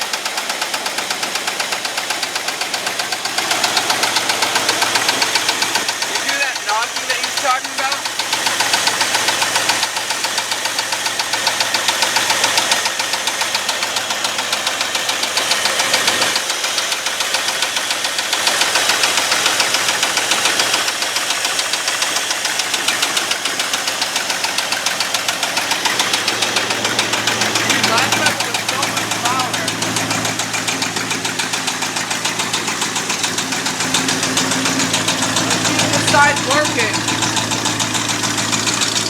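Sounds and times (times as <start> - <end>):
engine idling with rhythmic knock: 0.0 - 39.0.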